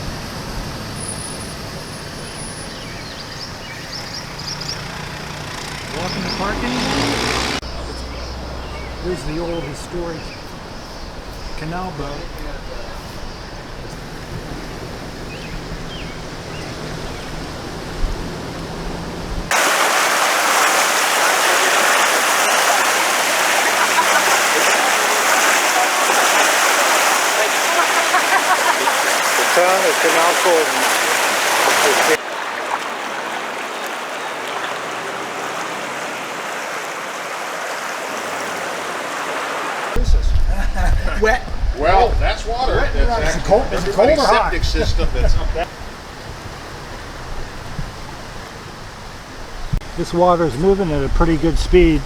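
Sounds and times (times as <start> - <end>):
rushing floodwater: 0.0 - 52.0.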